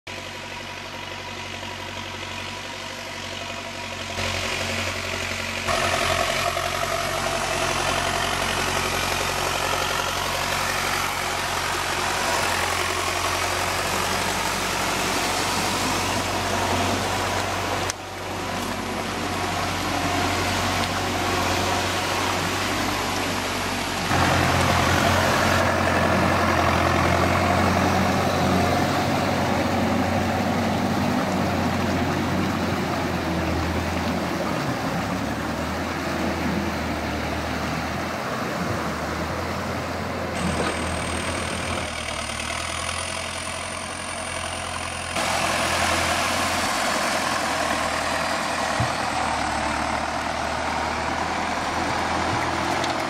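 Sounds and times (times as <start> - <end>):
tractor engines running: 0.1 - 53.0
tyres splashing through mud: 2.4 - 53.0.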